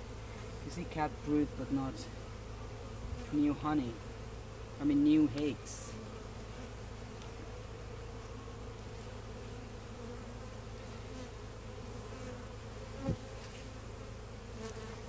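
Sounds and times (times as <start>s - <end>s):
bees humming: 0.0s - 15.0s.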